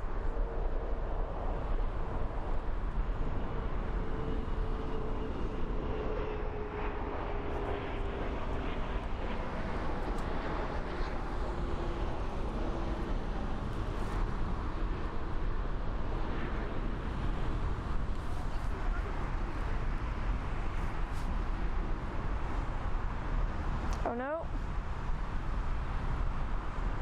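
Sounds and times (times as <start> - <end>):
distant jet engines running: 0.0 - 27.0.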